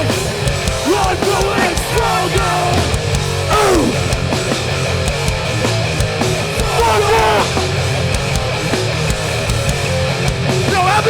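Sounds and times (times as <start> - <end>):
bass guitar: 0.0 - 11.0
drums: 0.0 - 11.0
electric guitars: 0.0 - 11.0.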